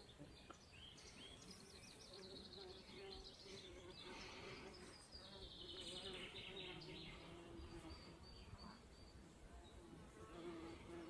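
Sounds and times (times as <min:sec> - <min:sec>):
faint bird chirps: 0:00.0 - 0:11.0
flying insect buzzing: 0:01.4 - 0:11.0.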